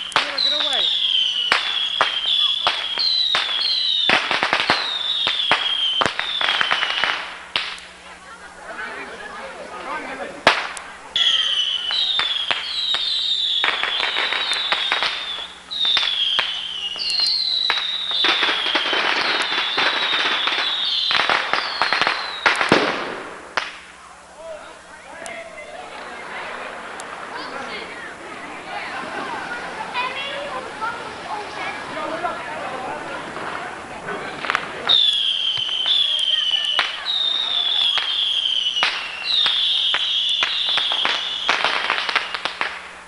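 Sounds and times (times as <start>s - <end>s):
firework whistles: 0.0s - 8.0s, 10.4s - 24.0s, 24.8s - 43.0s
firework bangs: 0.0s - 8.1s, 9.6s - 43.0s
crackling pops: 0.0s - 8.2s, 10.4s - 28.2s, 33.1s - 43.0s.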